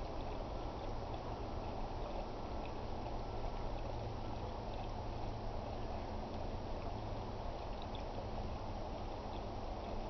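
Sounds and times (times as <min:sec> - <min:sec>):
fuel pouring through a funnel: 0:00.0 - 0:10.0.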